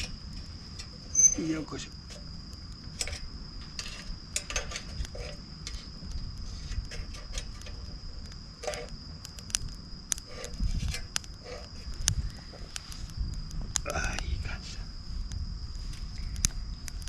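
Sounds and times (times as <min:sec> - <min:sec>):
campfire crackling and popping: 0:00.0 - 0:17.0
insect trill: 0:00.0 - 0:17.0.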